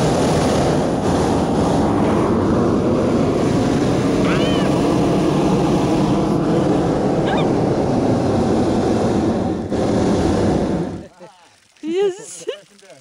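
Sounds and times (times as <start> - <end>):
propane burner roaring: 0.0 - 11.3
water splashing: 0.0 - 13.0.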